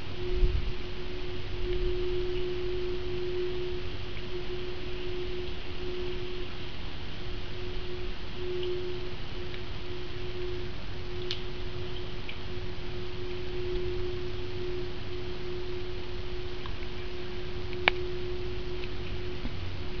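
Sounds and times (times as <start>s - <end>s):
low rumble: 0.0s - 20.0s
penetrating steady hum: 0.0s - 20.0s.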